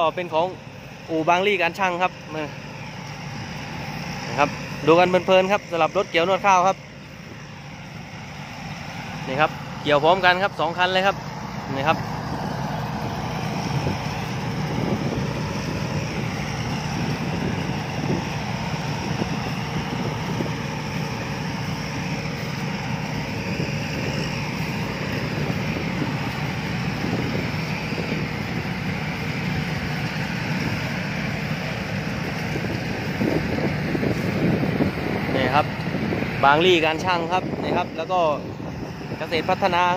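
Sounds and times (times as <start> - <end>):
combine harvesters running: 0.0 - 39.9.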